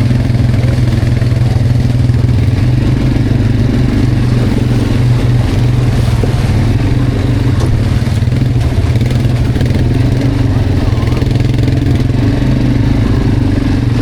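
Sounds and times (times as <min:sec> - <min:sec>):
quad bike engine under load: 0:00.0 - 0:14.0.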